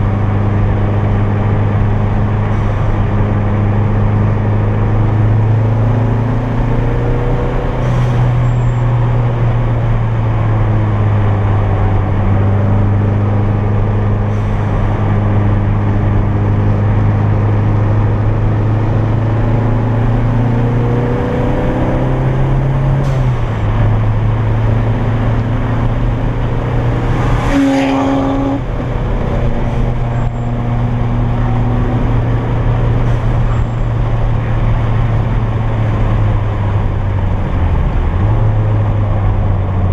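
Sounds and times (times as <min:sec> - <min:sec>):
road noise hiss: 0:00.0 - 0:39.9.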